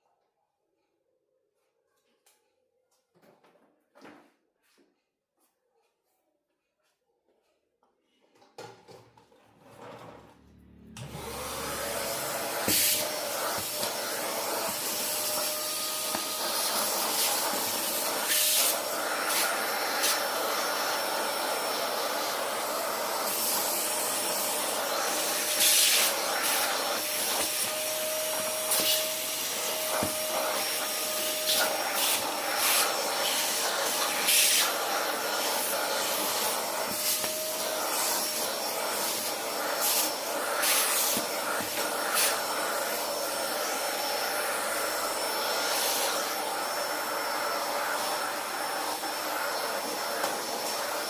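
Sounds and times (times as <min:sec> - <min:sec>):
vacuum cleaner running: 0:09.4 - 0:51.0.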